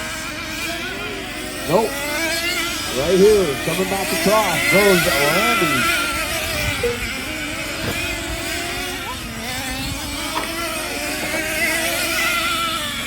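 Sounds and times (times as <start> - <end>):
rc truck engines buzzing: 0.0 - 13.0.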